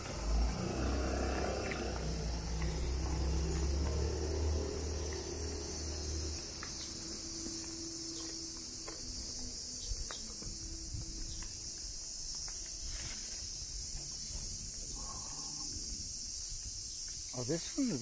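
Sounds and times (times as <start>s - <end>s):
cicadas chorus: 0.0s - 18.0s.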